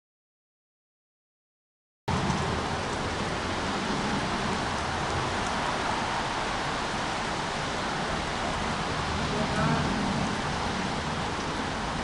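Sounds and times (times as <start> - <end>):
steady rain: 2.1 - 12.0.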